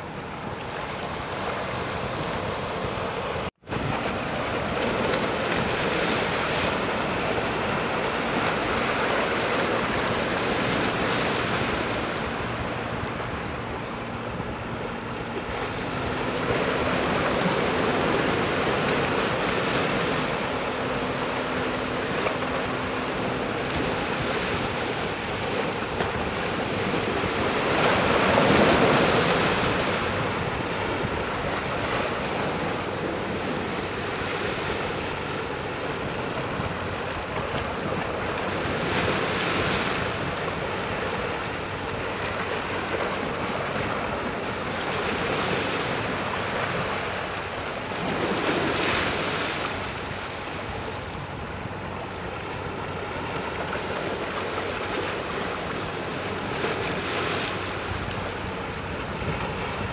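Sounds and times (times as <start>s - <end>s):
harbour water washing: 0.0s - 59.9s
wind buffeting microphone: 0.0s - 59.9s.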